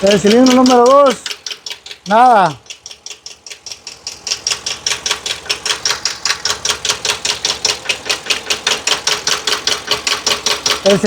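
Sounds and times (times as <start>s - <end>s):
engine idling with rapid ticking: 0.0s - 11.0s.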